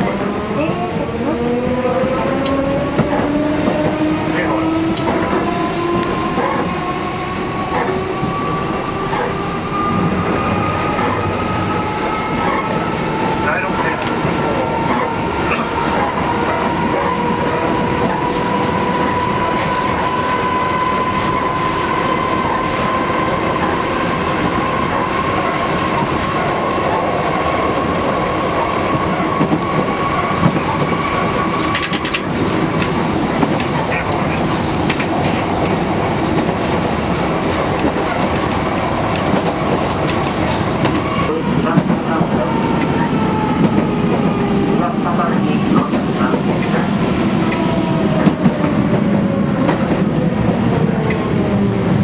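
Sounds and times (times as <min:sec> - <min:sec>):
tram motor whine: 0:00.0 - 0:52.0.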